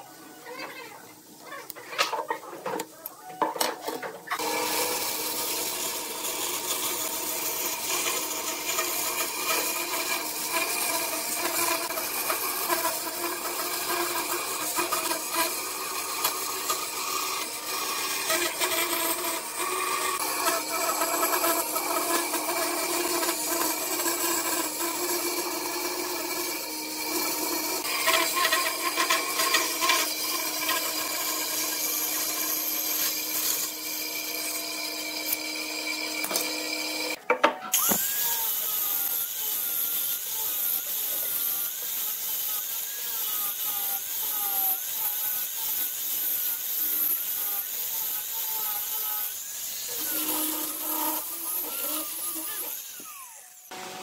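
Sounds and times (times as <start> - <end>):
bandsaw cutting wood: 4.4 - 54.0.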